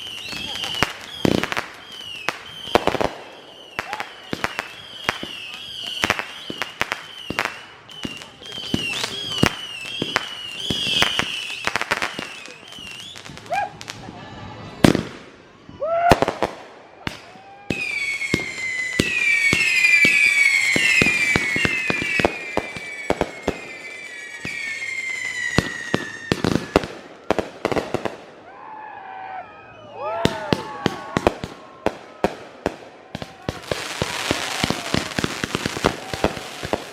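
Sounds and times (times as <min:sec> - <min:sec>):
falling firework whistle: 0:00.0 - 0:13.8, 0:14.8 - 0:32.4, 0:33.2 - 0:36.9
fireworks popping and crackling: 0:00.0 - 0:15.4, 0:16.1 - 0:28.4, 0:30.3 - 0:36.9.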